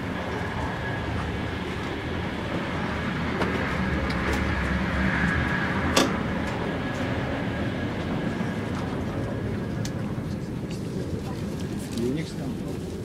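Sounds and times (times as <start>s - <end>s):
train running noise inside carriage: 0.0s - 13.0s.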